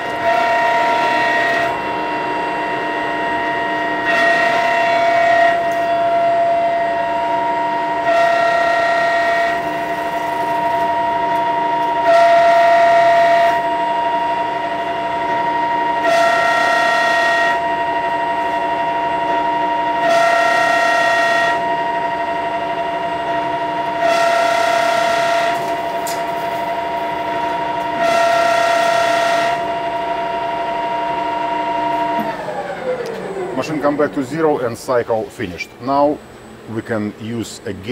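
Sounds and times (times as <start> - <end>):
lathe motor whine: 0.0 - 37.9.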